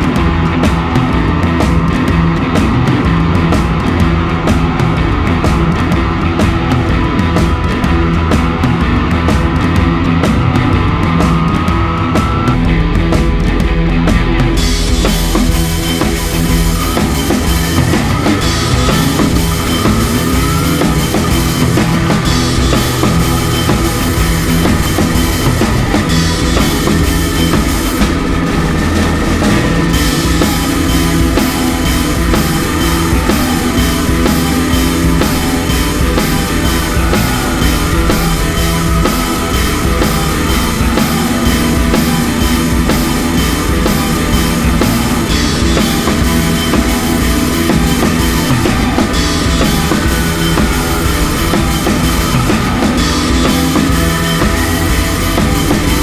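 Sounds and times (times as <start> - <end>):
rock music with drums: 0.0 - 56.0.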